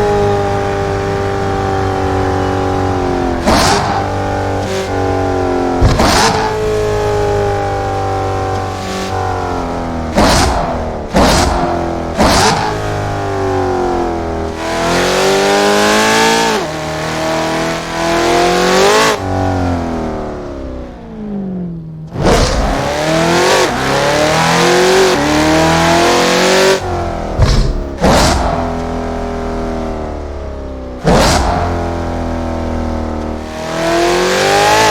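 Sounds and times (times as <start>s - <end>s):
car engine revving through gears: 0.0s - 34.9s.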